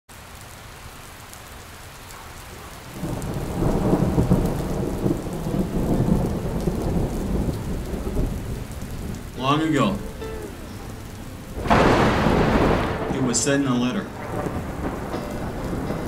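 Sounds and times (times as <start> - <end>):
steady rain: 0.1 - 16.0
low roll of thunder: 2.5 - 16.0.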